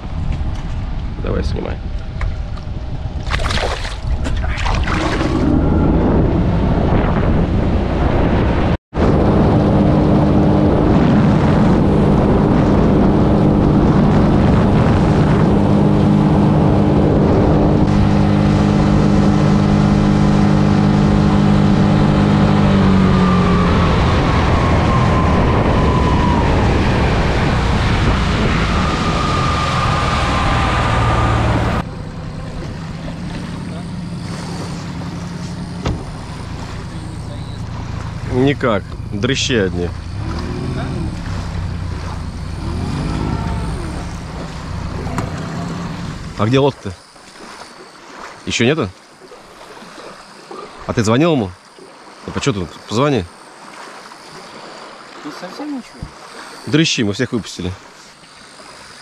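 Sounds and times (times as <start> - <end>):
wind: 0.0 - 59.0
outboard motor running: 1.8 - 8.0, 9.0 - 59.0
water rushing: 3.2 - 8.3, 9.0 - 59.0.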